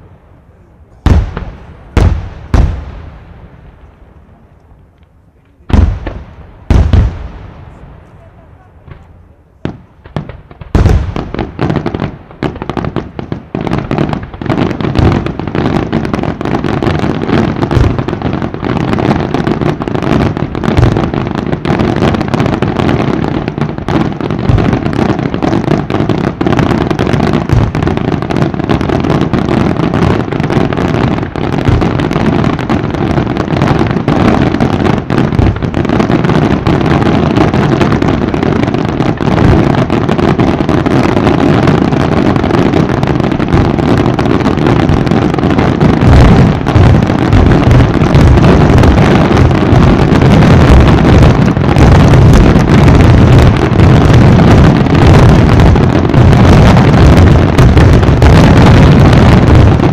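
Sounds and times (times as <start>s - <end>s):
firework crackling: 0.0s - 59.9s
firework shells booming: 0.0s - 59.9s.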